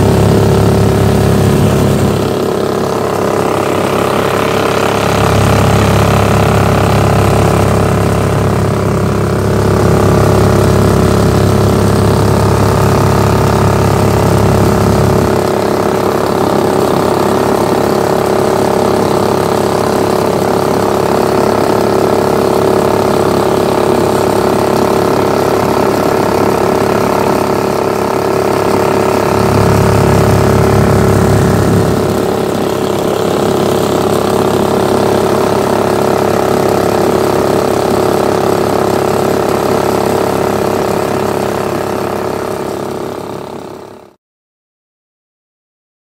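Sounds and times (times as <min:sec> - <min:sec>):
boat motor running: 0:00.0 - 0:44.2.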